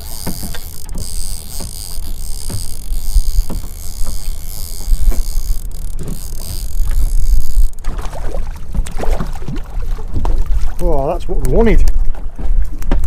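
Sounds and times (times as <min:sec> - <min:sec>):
water sloshing against hull: 0:00.0 - 0:13.0
wind rumbling on microphone: 0:00.0 - 0:13.0.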